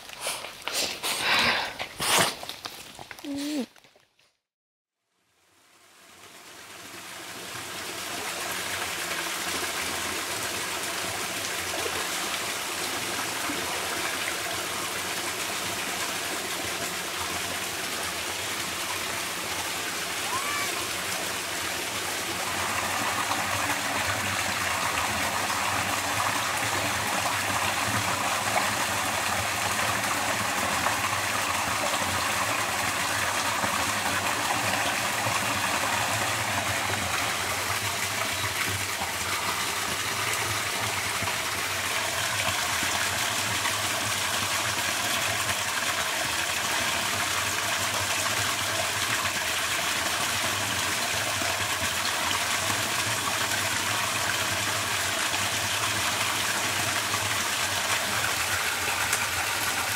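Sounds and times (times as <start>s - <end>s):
waterfall rushing over rock: 6.4s - 59.9s.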